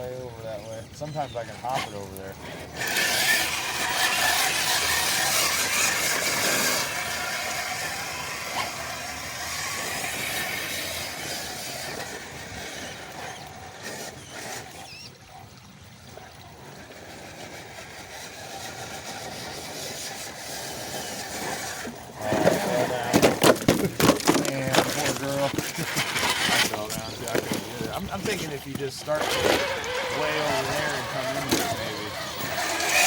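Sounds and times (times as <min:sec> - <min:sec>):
toy car motor and gears whining: 0:00.0 - 0:15.4, 0:16.7 - 0:33.0.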